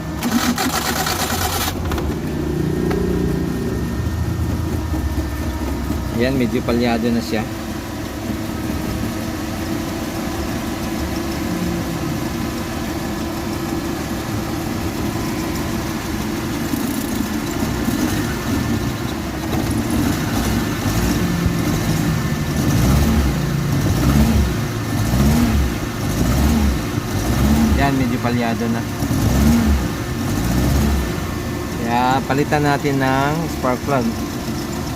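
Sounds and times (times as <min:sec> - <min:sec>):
engine idling roughly and misfiring: 0:00.0 - 0:34.9.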